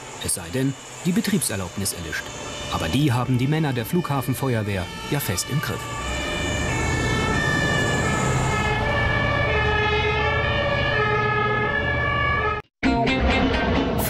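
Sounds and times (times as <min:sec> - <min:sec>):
truck engines rumbling: 0:00.0 - 0:12.6
two-tone fire engine sirens: 0:00.0 - 0:12.7.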